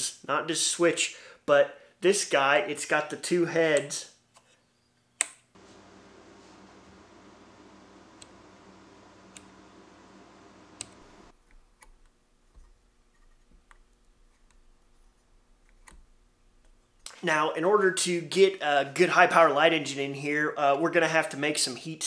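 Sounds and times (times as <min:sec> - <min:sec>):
faint steady hum: 0:00.2 - 0:21.1.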